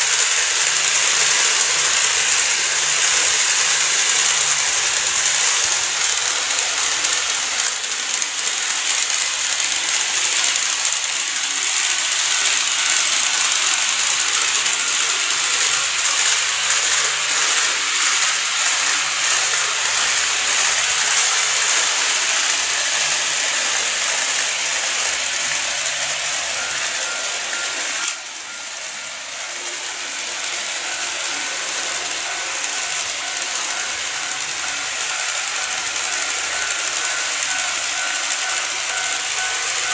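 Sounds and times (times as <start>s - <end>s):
model train whirring rattle: 0.0s - 39.9s.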